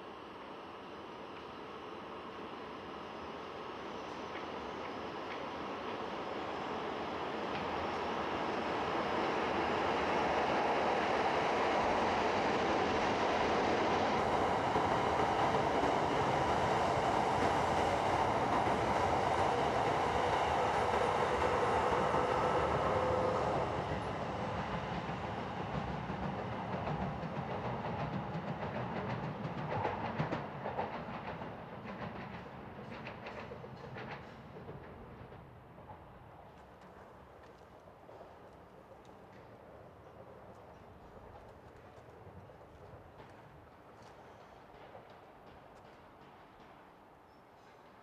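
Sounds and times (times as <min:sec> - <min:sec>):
rhythmic clatter over rails: 0:00.0 - 0:48.0
train wheels rolling on rails: 0:00.0 - 0:48.0.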